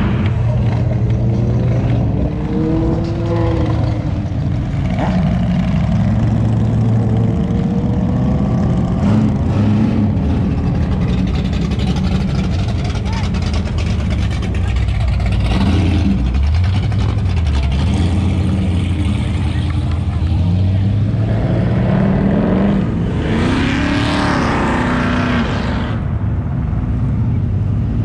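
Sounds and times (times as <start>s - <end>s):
cars and motorcycles driving past: 0.0s - 28.0s.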